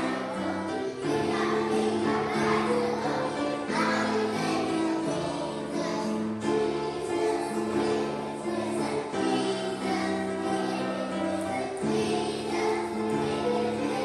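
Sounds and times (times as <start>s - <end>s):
children singing: 0.0s - 14.0s
musical accompaniment: 0.0s - 14.0s.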